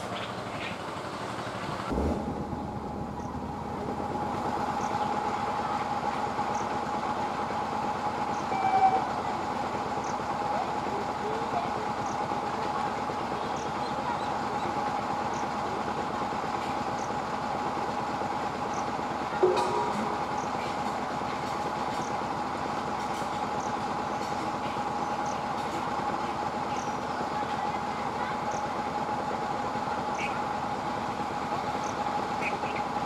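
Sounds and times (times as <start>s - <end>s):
train hum: 0.0s - 33.0s
train rumbling over rails: 0.0s - 33.0s.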